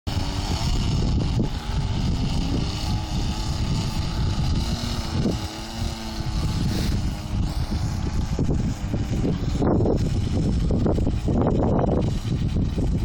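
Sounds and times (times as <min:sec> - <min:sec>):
distant model plane motor drone: 0:00.1 - 0:13.0
wind buffeting microphone: 0:00.1 - 0:13.0.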